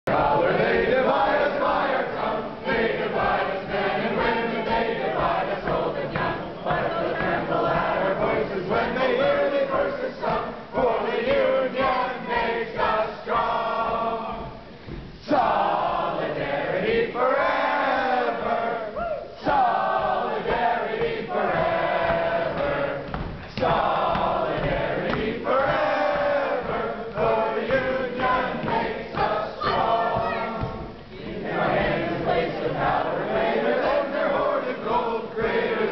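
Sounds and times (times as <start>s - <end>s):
crowd singing in unison: 0.1s - 35.9s.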